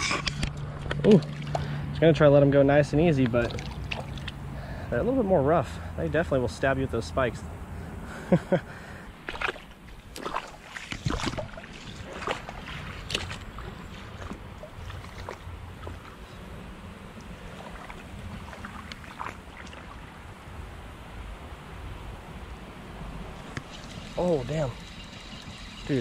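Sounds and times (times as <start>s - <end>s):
creek water: 0.0s - 26.0s.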